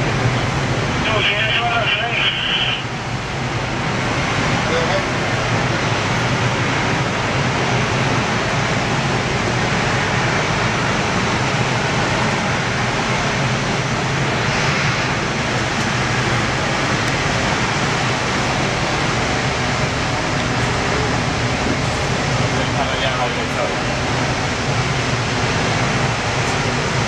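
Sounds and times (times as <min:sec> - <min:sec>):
jet engine running: 0:00.0 - 0:27.0.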